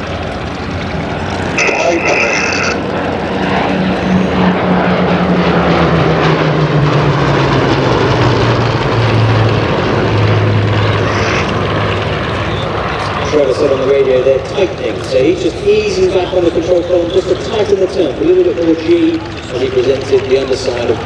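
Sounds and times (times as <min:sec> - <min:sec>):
propeller aircraft drone overhead: 0:00.0 - 0:21.0.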